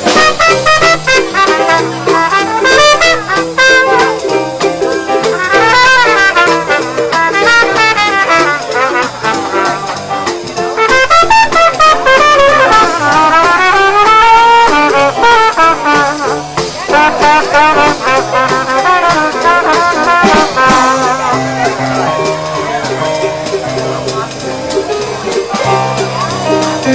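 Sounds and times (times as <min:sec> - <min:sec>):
trumpet playing jazz melody: 0:00.0 - 0:26.9.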